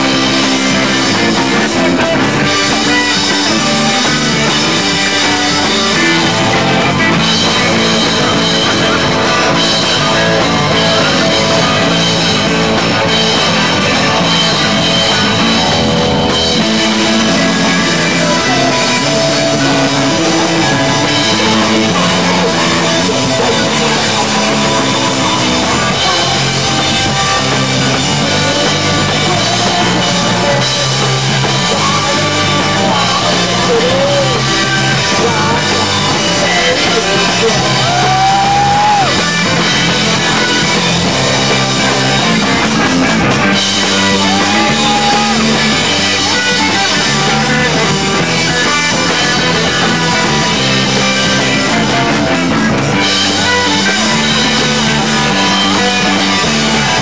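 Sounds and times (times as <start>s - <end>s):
bending guitar notes: 0.0s - 57.0s
drum kit: 0.0s - 57.0s
electric guitar: 0.0s - 57.0s
punk rock band playing: 0.0s - 57.0s.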